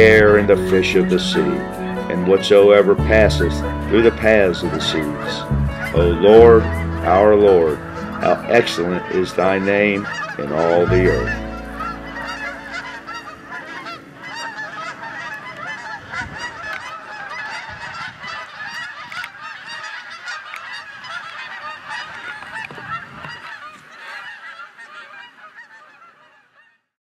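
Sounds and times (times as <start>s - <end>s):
geese honking: 0.0s - 26.8s.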